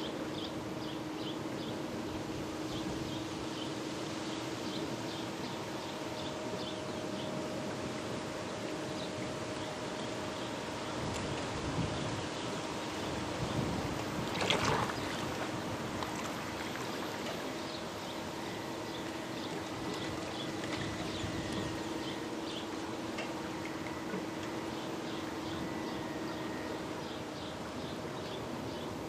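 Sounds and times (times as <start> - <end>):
model boat motor humming: 4.5 - 29.0.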